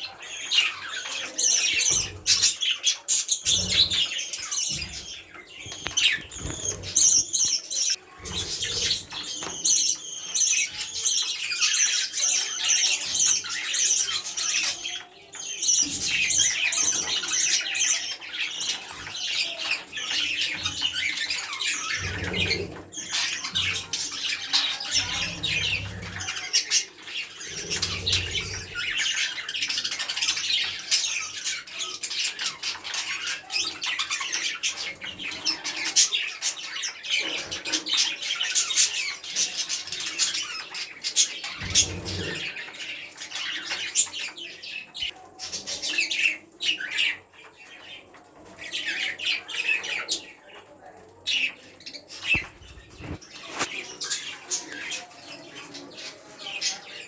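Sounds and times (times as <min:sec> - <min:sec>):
budgerigars chattering and squawking: 0:00.0 - 0:57.0.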